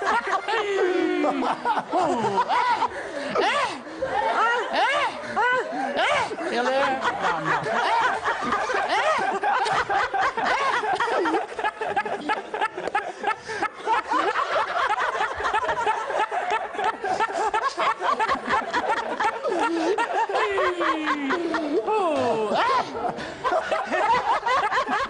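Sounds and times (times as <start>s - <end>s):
person laughing loudly: 0.0s - 25.0s.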